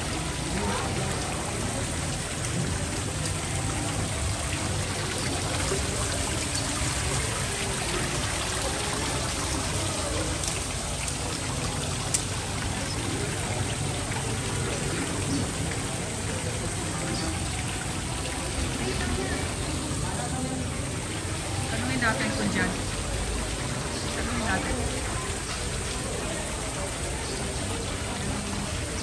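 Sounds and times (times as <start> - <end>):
faint voices: 0.0 - 29.0
running water rushing: 0.0 - 29.0.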